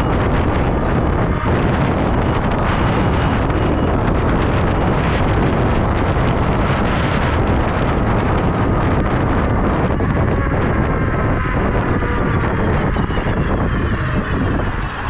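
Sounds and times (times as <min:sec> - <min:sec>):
road and drivetrain noise: 0:00.0 - 0:15.0
wind buffeting microphone: 0:00.0 - 0:15.0.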